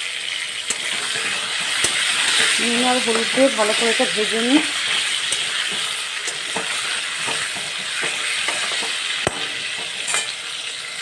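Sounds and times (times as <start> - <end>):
potatoes sizzling in hot oil: 0.0 - 11.0
spatula scraping a pan: 0.6 - 11.0.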